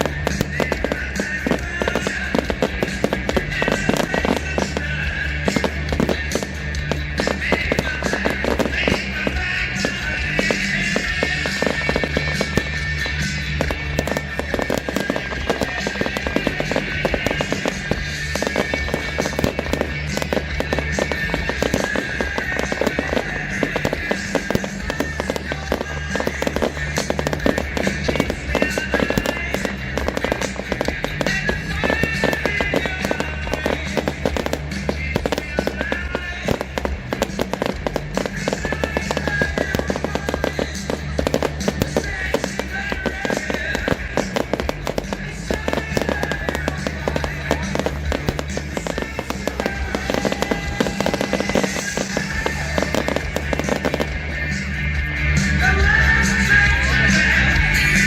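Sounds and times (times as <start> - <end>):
fireworks crackling: 0.0 - 58.0
loud music with bass: 0.0 - 58.0.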